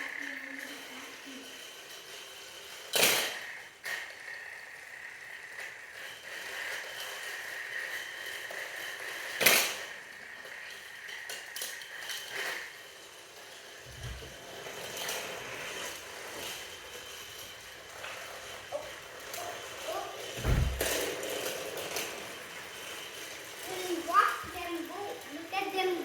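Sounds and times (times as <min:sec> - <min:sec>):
toy train motors whining: 0:00.0 - 0:26.0
toy trains clicking on track: 0:00.0 - 0:26.0.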